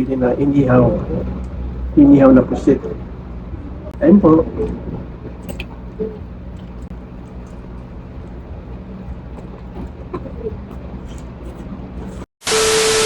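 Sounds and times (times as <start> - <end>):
low hum of traffic: 0.0 - 12.3.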